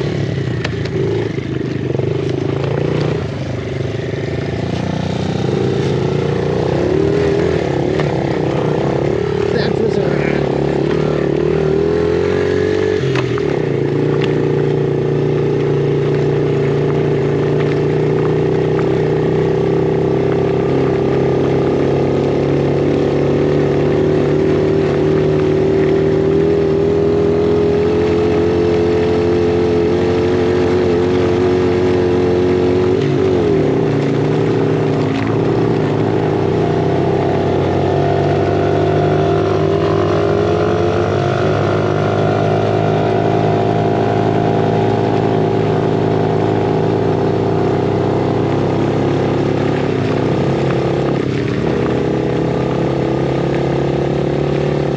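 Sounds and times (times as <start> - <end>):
small motorcycle engine running: 0.0 - 54.9.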